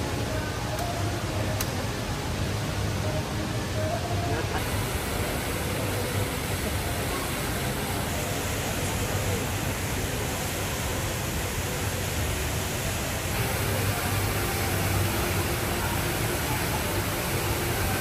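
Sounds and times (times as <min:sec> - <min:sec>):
indoor waterfall rushing: 0:00.0 - 0:18.0.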